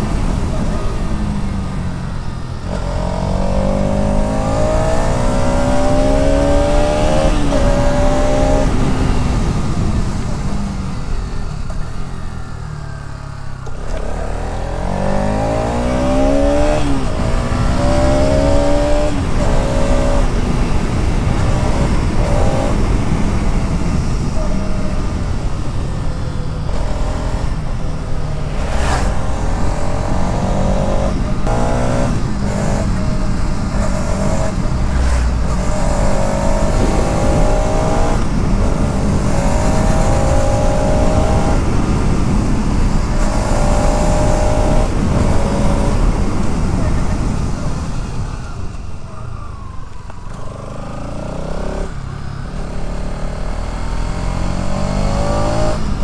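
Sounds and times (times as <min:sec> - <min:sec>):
wind rushing over microphone: 0:00.0 - 0:12.4, 0:13.7 - 0:56.0
motorcycle engine revving: 0:00.0 - 0:56.0.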